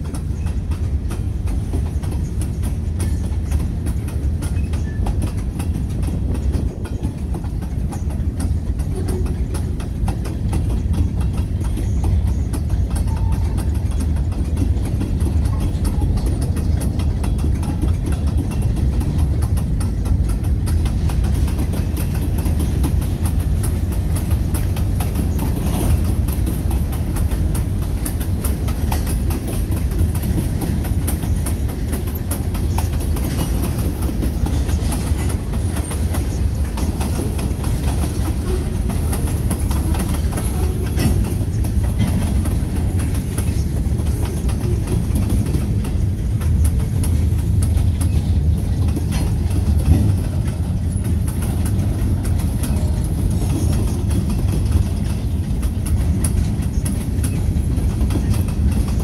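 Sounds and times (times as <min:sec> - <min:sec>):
train wheels rumbling on rail: 0:00.0 - 0:59.0
wheels clicking over track: 0:00.0 - 0:59.0.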